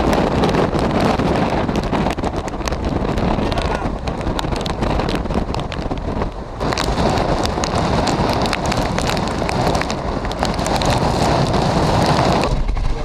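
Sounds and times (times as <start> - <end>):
raindrops hitting: 0.0 - 13.0
wind rumbling on microphone: 0.0 - 13.0.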